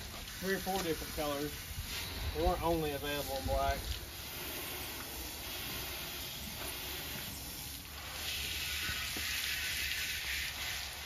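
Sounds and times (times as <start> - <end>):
hose spraying water on car: 0.0 - 11.0.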